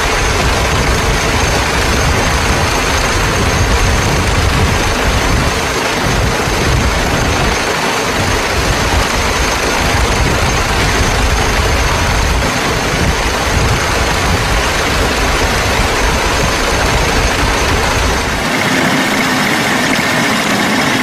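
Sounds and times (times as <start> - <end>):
car engine rumble: 0.0 - 20.1
wind and road noise: 0.0 - 21.0.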